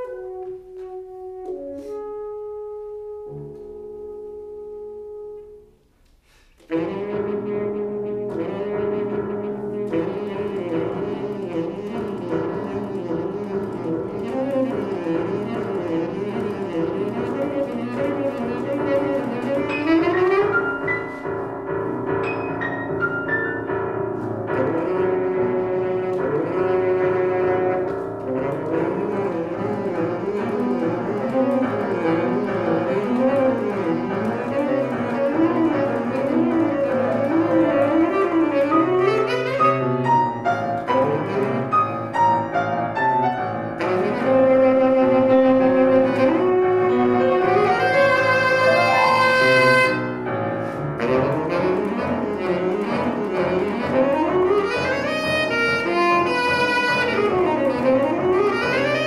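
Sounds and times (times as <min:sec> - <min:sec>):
tenor saxophone: 0:00.0 - 0:21.3, 0:24.5 - 0:59.0
piano: 0:00.0 - 0:59.0.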